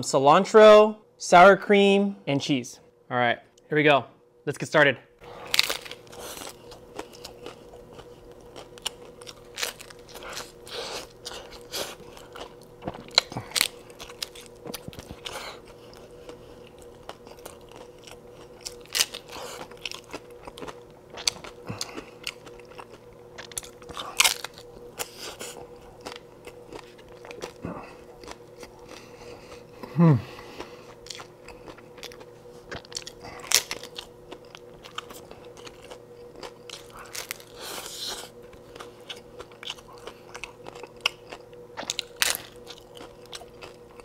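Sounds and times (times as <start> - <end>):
faint steady hum: 0.0 - 44.0
taco shells crunching: 5.3 - 44.0.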